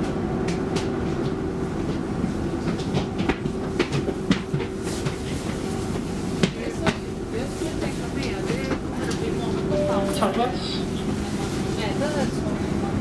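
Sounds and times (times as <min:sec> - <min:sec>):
train motor hum: 0:00.0 - 0:13.0.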